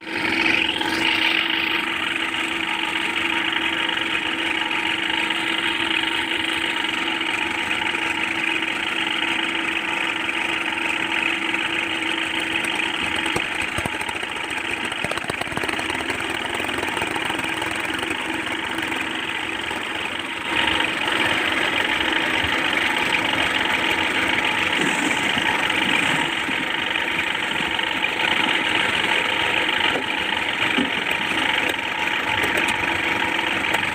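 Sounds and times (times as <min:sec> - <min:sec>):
construction machine engine humming: 0:00.0 - 0:33.9.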